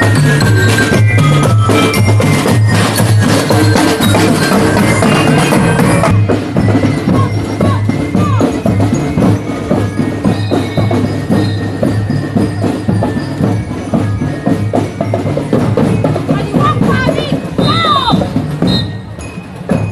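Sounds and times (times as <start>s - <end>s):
bell-like mallet percussion: 0.0s - 19.9s
drums keeping a steady beat: 0.0s - 19.9s
marching band playing: 0.0s - 19.9s.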